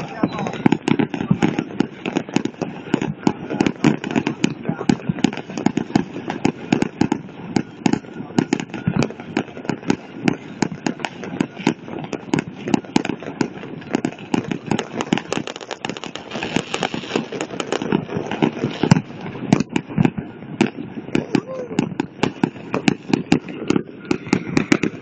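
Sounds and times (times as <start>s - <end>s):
fireworks bangs and pops: 0.0s - 25.0s
fireworks crackling hiss: 0.0s - 25.0s.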